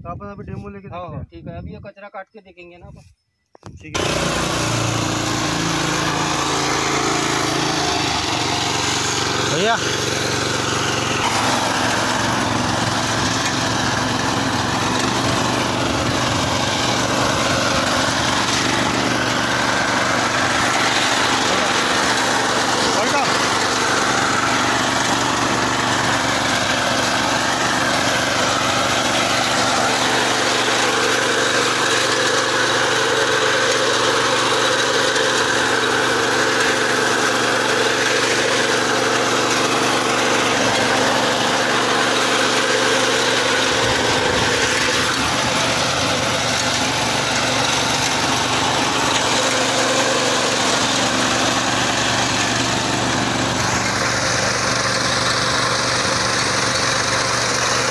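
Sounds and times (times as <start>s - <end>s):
cutter bar mowing grass: 3.6s - 57.9s
small petrol engine running: 4.0s - 57.9s.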